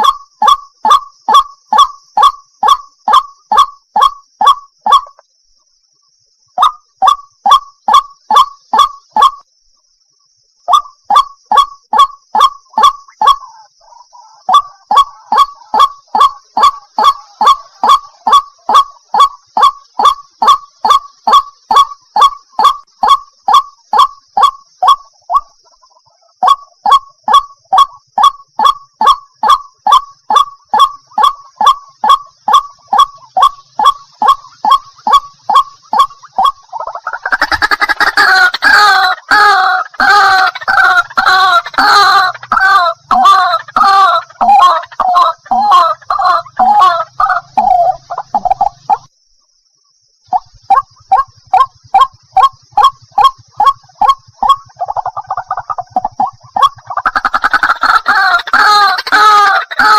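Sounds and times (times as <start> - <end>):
repeated bird calls: 0.0 - 59.9
harsh rapid bird chorus: 6.5 - 9.4, 10.7 - 49.1, 49.9 - 59.9.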